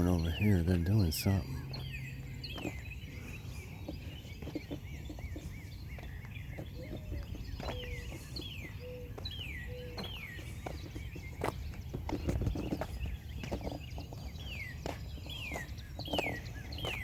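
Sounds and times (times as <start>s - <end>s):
songbirds whistling: 0.0s - 17.0s.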